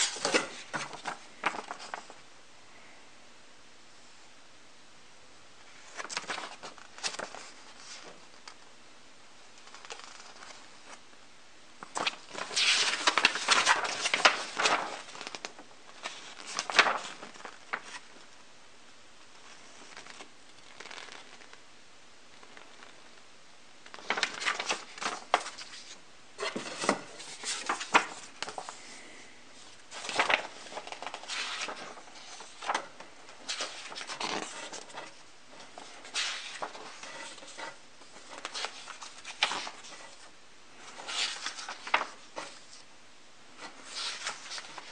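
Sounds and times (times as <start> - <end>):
paper pages rustling: 0.0 - 2.2, 5.7 - 8.6, 9.6 - 11.0, 11.8 - 18.3, 19.3 - 21.6, 22.4 - 23.2, 23.8 - 42.8, 43.6 - 44.9.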